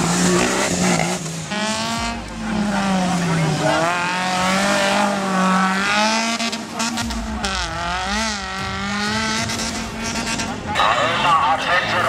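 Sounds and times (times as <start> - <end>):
deep engine rumble: 0.0 - 12.0
off-road vehicle engine revving: 0.0 - 12.0.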